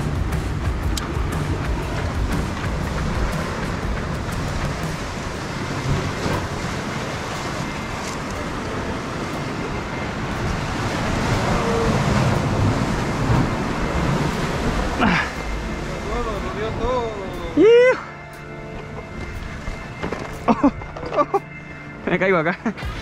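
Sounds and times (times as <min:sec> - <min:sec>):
ocean surf washing: 0:00.0 - 0:23.0.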